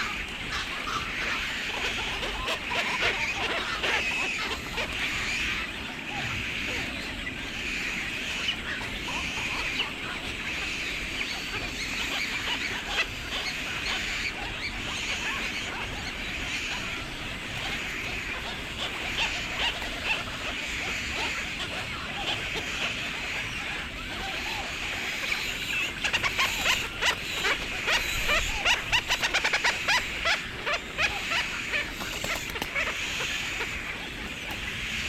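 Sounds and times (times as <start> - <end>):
many birds chattering: 0.0 - 35.0.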